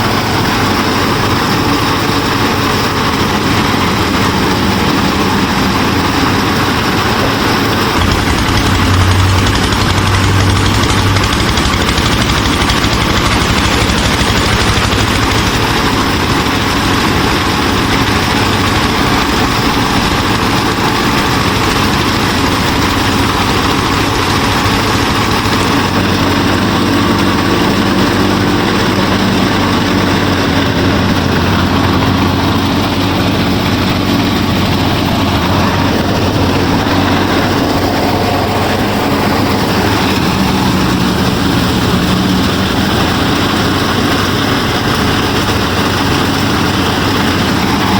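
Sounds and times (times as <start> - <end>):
small motor machine rattling drone: 0.0 - 47.9.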